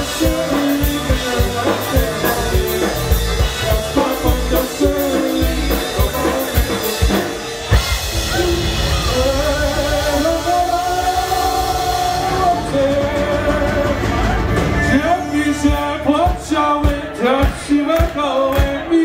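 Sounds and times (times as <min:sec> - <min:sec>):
person singing: 0:00.0 - 0:19.0
polka band playing: 0:00.0 - 0:19.0.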